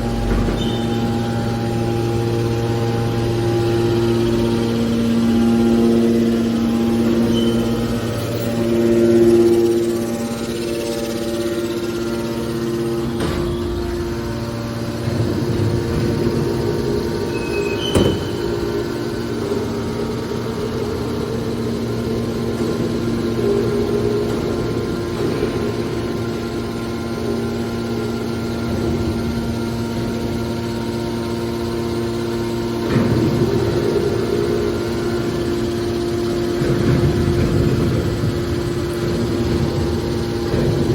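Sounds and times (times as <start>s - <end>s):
hydraulic baler humming: 0.0s - 40.9s.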